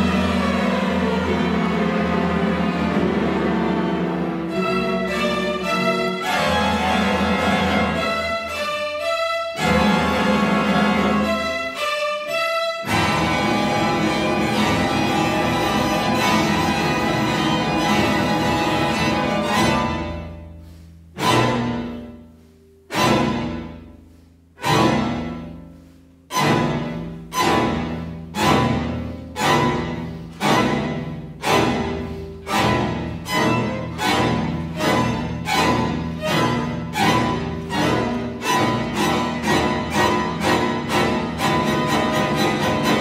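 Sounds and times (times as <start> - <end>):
string orchestra playing chords: 0.0 - 43.0.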